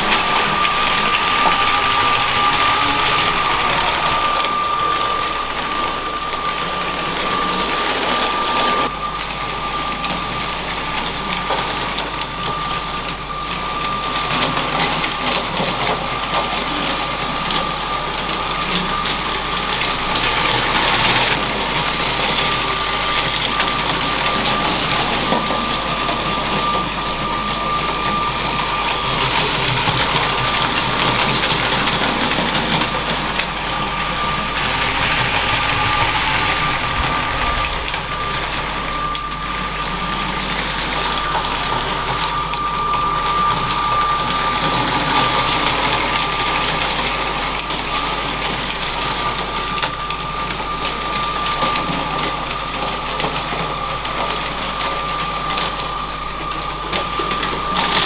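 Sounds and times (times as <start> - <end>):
small electric motor whine: 0.0 - 58.0
wheels rattling on plastic track: 10.0 - 58.0.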